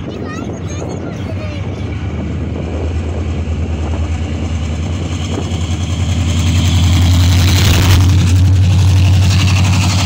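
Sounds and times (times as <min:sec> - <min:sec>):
diesel locomotive engine throbbing: 0:00.0 - 0:10.0.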